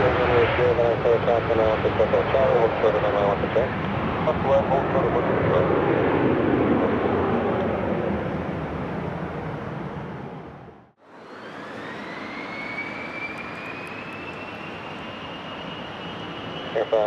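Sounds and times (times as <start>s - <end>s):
jet engine noise: 0.0s - 17.0s
jet turbine whine rising: 0.0s - 17.0s.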